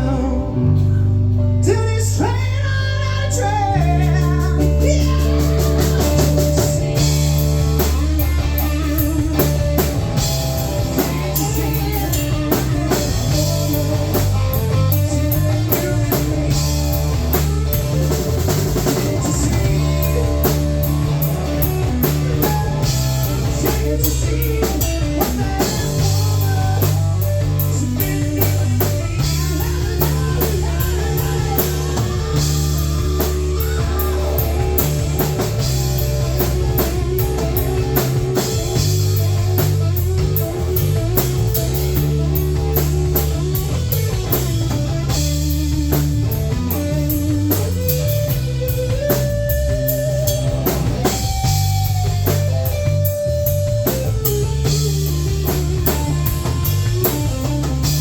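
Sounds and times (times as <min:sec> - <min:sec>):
electric guitar: 0:00.0 - 0:58.0
drum kit beat: 0:03.4 - 0:58.0.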